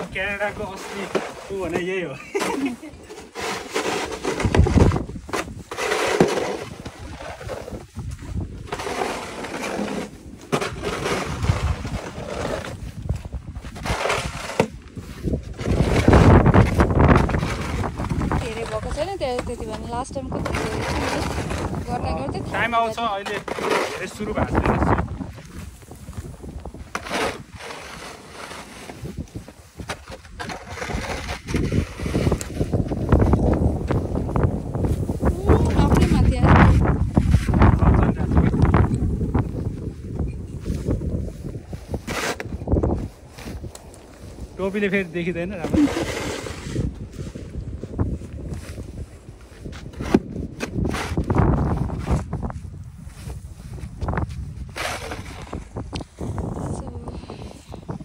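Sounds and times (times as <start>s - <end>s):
snow shovel scraping snow: 0.0s - 39.8s, 40.5s - 52.4s, 53.0s - 56.6s
wind buffeting microphone: 3.8s - 58.0s.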